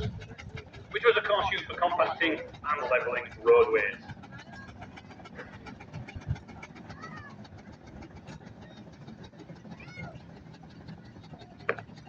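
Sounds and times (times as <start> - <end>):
low rumble of machinery and crowd: 0.0 - 12.0.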